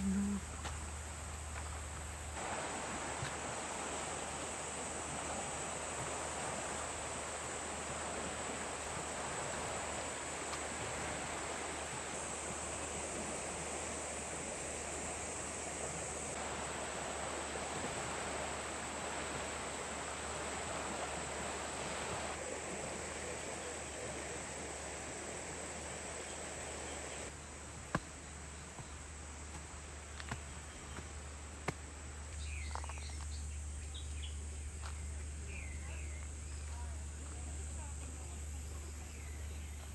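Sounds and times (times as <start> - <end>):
background hiss: 0.0 - 39.9
high insect drone: 0.0 - 39.9.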